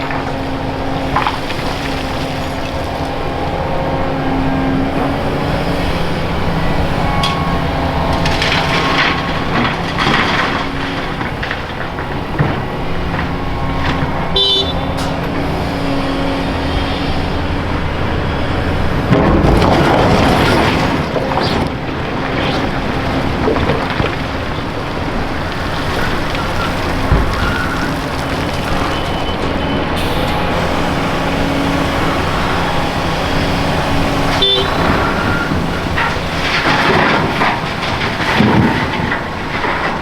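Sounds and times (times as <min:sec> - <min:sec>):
excavator engine and hydraulics: 0:00.0 - 0:40.0
rubble rattling rush: 0:00.0 - 0:40.0.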